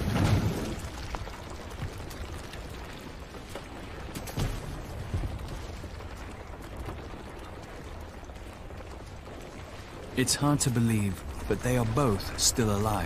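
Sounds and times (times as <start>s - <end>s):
rock and snow falling: 0.0s - 13.0s.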